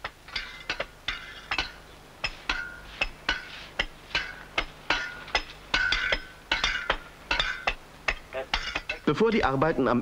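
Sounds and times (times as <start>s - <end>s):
steel hand tools striking stone: 0.0s - 9.8s.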